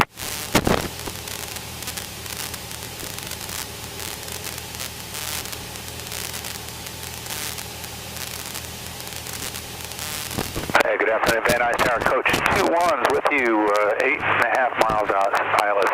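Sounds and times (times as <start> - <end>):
headset static hiss: 0.0 - 15.9
propeller plane engine drone: 0.0 - 15.9.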